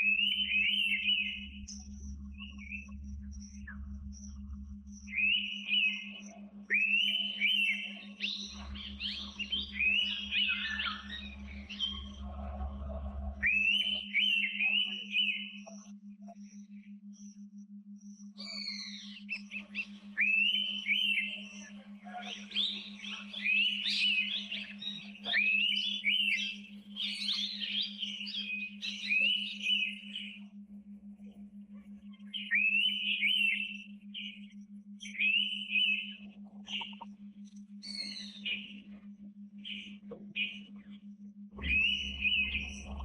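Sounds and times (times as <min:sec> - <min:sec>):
bird singing whistled notes: 0:00.0 - 0:12.3, 0:13.3 - 0:15.9, 0:18.1 - 0:30.5, 0:32.0 - 0:37.1, 0:37.8 - 0:40.8, 0:41.6 - 0:43.0
steady low hum: 0:00.0 - 0:43.0.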